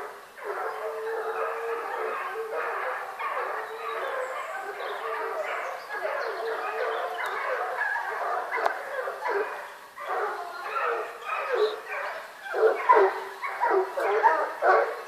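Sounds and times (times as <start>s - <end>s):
dogs baying and yipping: 0.0s - 15.0s.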